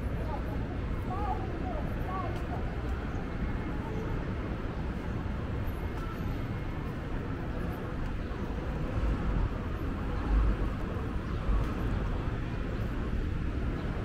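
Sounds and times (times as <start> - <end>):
low urban rumble: 0.0 - 14.0.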